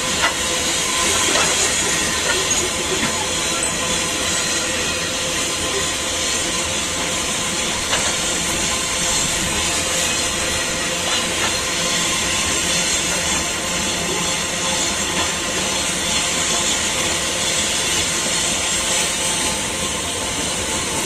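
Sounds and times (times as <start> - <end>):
steel wheels rumbling on track: 0.0 - 21.0.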